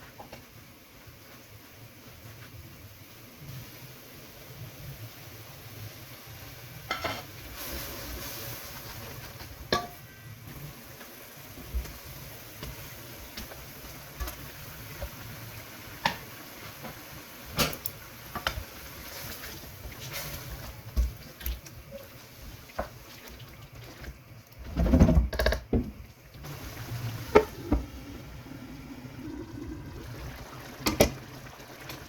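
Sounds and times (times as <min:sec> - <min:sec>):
food sizzling in a pot: 0:00.0 - 0:32.0.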